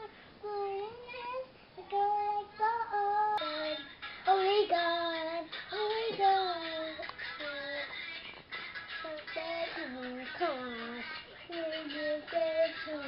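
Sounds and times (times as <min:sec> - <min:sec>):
little girl singing: 0:00.0 - 0:08.2, 0:08.9 - 0:13.0.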